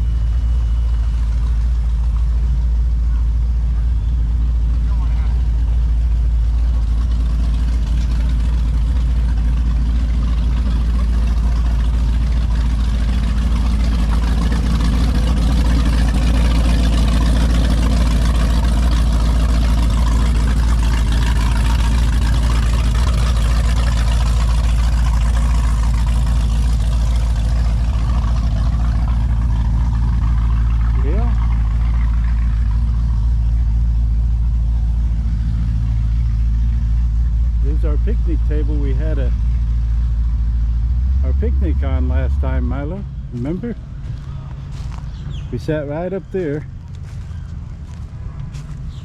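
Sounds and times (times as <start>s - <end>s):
broader engine noise: 0.0s - 49.0s
engine idling: 0.0s - 49.0s.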